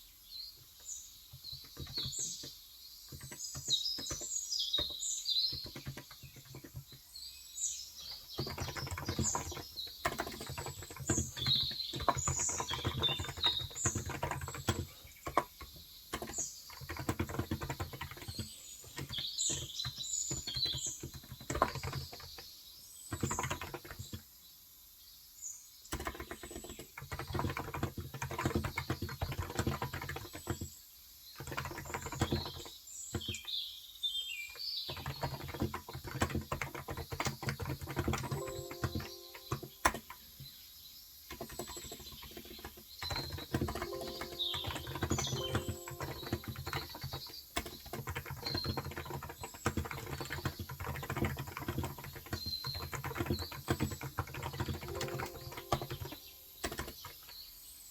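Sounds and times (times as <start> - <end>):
small birds chirping: 0.0 - 57.9
fast typing on keyboard: 1.3 - 24.4, 25.9 - 33.6, 34.2 - 57.6.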